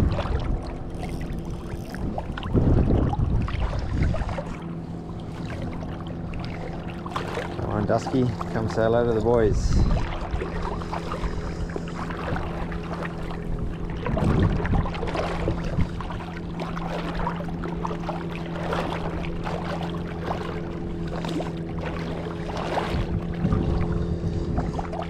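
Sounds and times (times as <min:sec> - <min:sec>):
boat motor humming: 0:00.0 - 0:25.0
water sloshing and splashing: 0:00.0 - 0:25.0.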